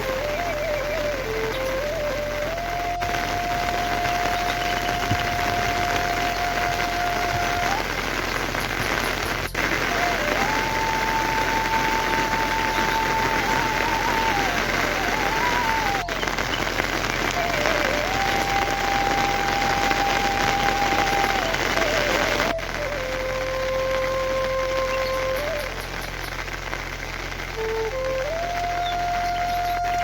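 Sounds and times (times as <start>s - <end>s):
heavy rain falling: 0.0s - 30.0s
melody of long held notes: 0.0s - 30.0s.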